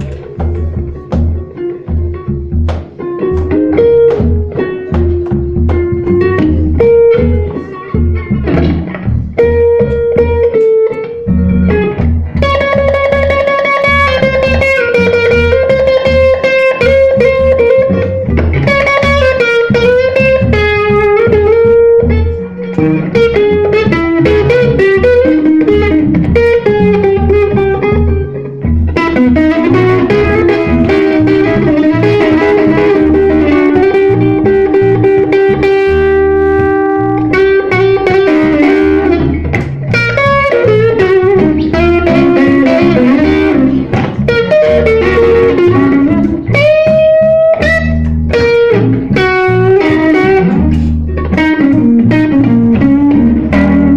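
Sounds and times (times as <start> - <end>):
blues band playing: 0.0 - 53.9
electric guitar lead: 0.0 - 53.9.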